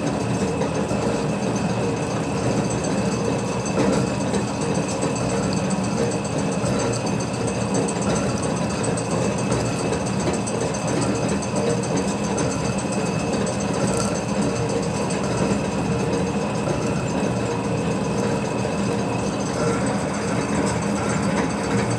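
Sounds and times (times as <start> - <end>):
metal slotting machine droning: 0.0 - 21.9.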